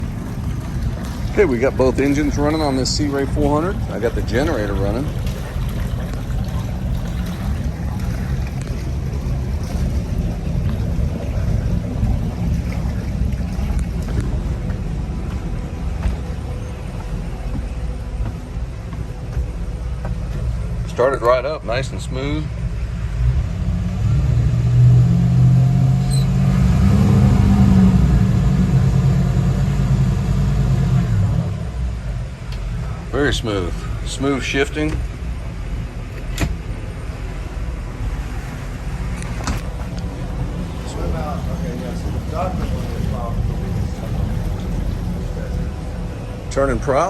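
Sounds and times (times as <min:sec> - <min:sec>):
boat engines rumbling: 0:00.0 - 0:47.0.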